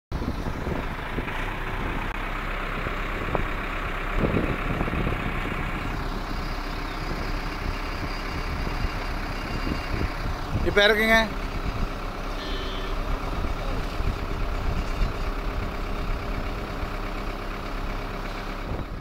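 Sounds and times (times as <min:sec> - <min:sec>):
tractor diesel engine running: 0:00.1 - 0:19.0.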